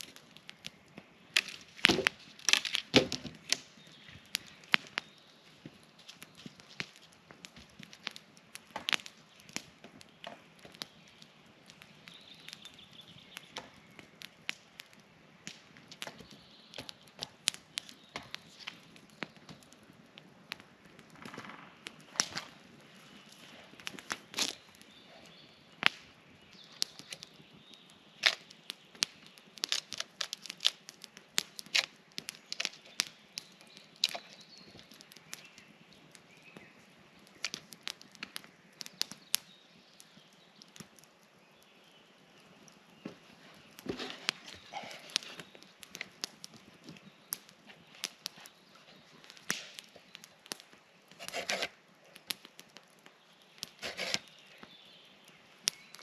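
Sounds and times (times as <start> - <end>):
sharp cracks and snaps: 0.0 - 56.0.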